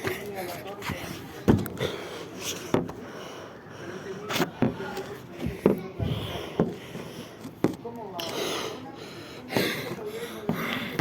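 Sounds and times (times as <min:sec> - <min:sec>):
faint children's voices: 0:00.0 - 0:11.0.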